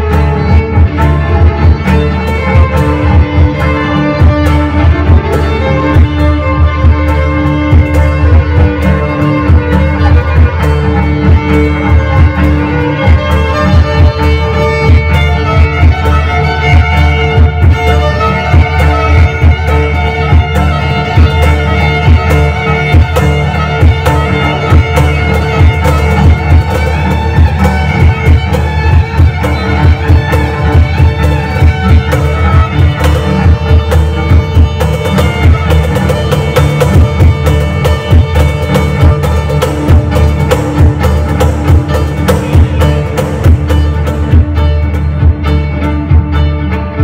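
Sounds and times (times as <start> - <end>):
cajon hand-drum strokes: 0.0 - 46.5
sustained cello notes: 0.0 - 47.0
violin melody: 0.0 - 47.0.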